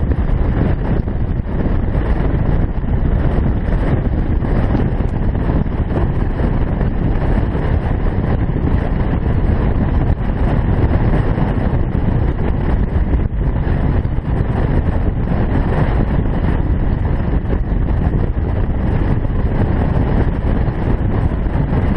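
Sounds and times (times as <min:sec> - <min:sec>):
motorcycle engine running: 0:00.0 - 0:21.9
wind buffeting microphone: 0:00.0 - 0:21.9.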